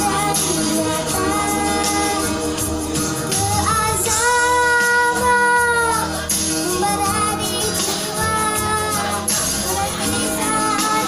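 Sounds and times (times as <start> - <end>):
girl singing: 0.0 - 11.0
percussion: 0.0 - 11.0.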